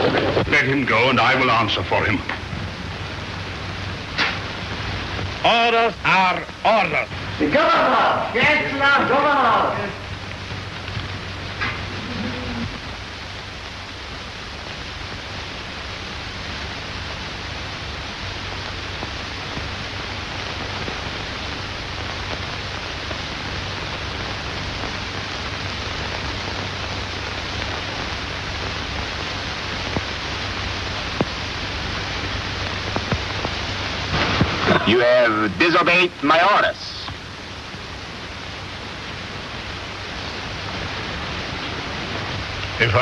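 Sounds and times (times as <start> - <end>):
film soundtrack hiss and hum: 0.0 - 43.0.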